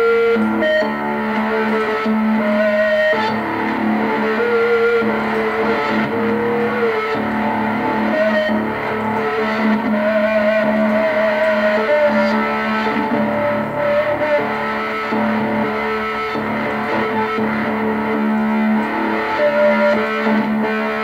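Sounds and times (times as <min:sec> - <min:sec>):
electric guitar held notes: 0:00.0 - 0:21.0.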